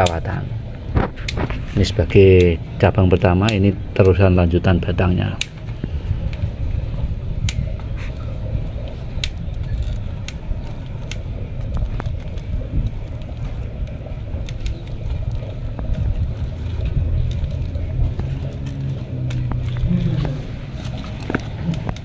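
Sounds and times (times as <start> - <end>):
wire clicking and scraping: 0.0 - 2.6, 5.2 - 6.6, 7.4 - 22.0
steady low rumble: 0.0 - 22.0.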